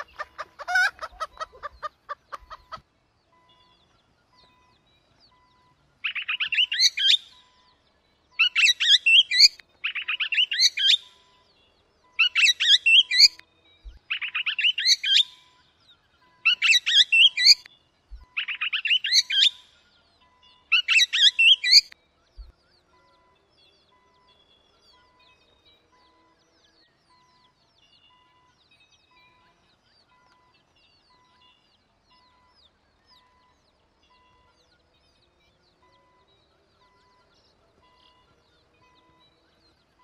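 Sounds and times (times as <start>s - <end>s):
songbird chirping: 0.0s - 40.0s.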